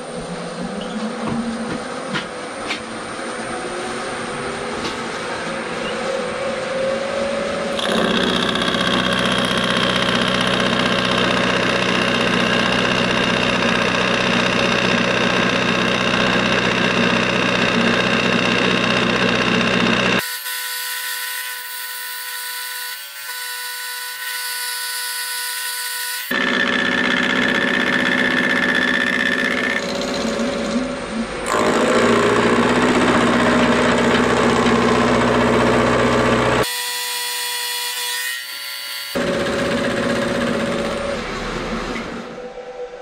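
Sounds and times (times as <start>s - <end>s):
milling machine cutting steel: 7.7s - 42.4s.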